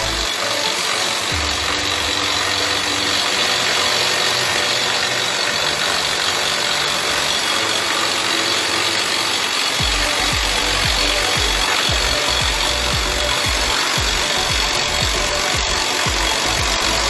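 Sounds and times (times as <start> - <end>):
drilling rig running: 0.0 - 17.0.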